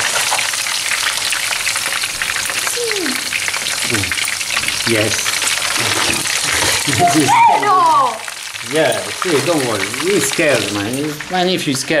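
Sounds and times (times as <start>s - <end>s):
lobsters sizzling in oil: 0.0s - 12.0s.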